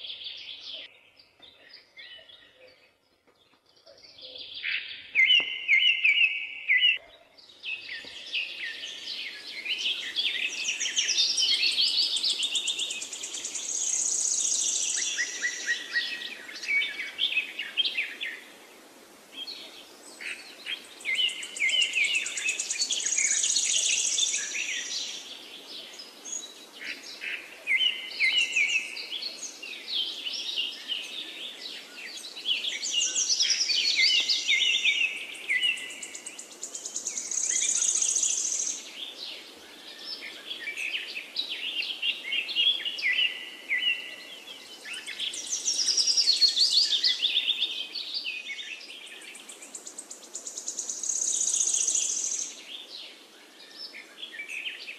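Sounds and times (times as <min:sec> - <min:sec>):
songbird singing trills: 0:00.0 - 0:18.5, 0:19.4 - 0:54.9.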